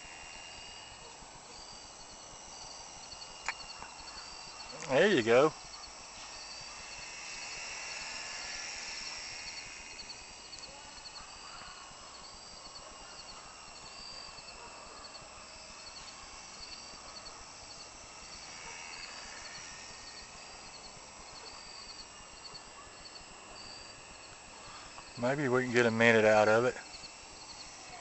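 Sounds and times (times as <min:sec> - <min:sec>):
model plane electric motor whine: 0:00.0 - 0:28.0.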